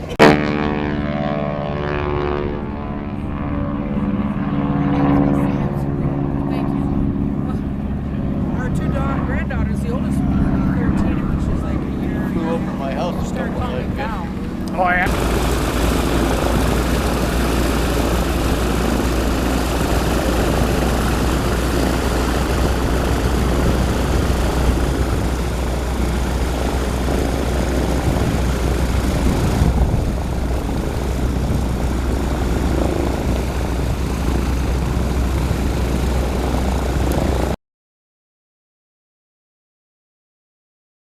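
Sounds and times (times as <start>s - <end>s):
propeller aircraft engines droning: 0.0s - 37.6s.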